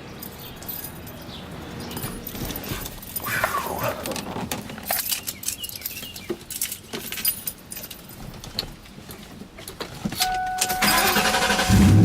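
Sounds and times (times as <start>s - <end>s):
car keys jangling: 0.2s - 11.8s.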